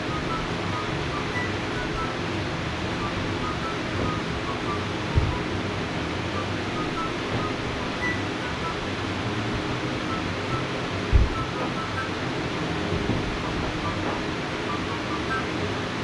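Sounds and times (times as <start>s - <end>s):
background music melodic notes: 0.0s - 16.0s
steady noisy hiss: 0.0s - 16.0s.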